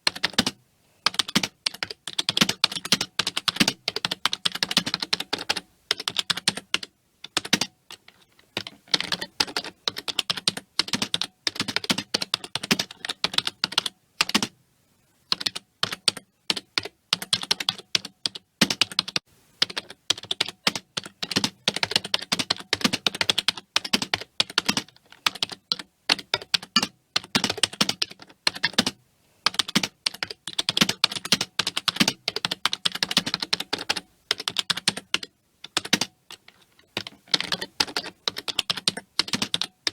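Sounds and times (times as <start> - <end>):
fast typing on keyboard: 0.0 - 14.5, 15.3 - 39.9.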